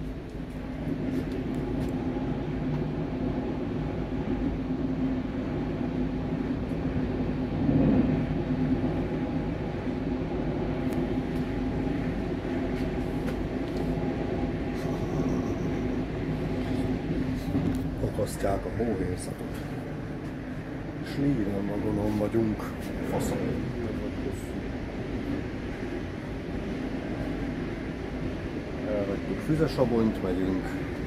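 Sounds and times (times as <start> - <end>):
steady tonal hum: 0.0 - 31.0
train wheels rumbling on track: 0.0 - 31.0.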